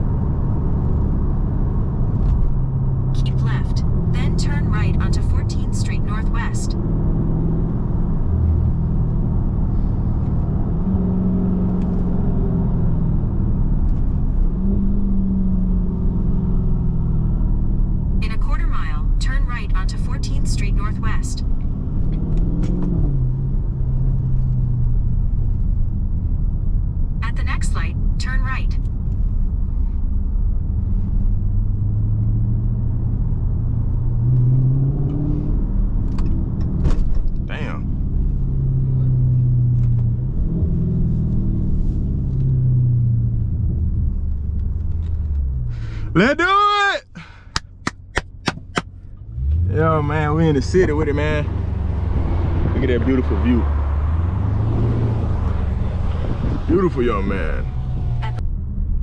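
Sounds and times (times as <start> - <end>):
car exhaust drone: 0.0 - 59.0.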